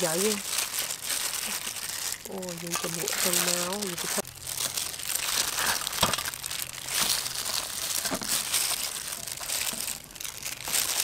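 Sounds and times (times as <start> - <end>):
plastic glove crinkling: 0.0 - 11.0.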